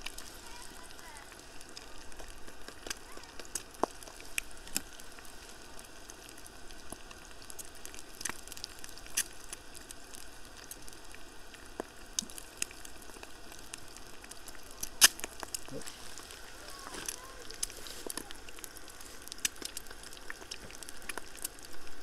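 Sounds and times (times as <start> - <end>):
egg sizzling and popping in oil: 0.0 - 22.0.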